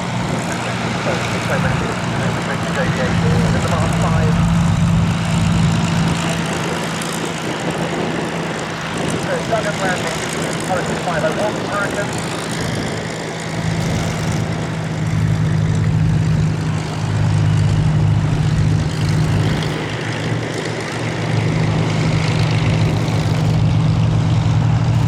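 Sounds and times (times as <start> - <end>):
propeller aircraft engine drone: 0.0 - 25.0.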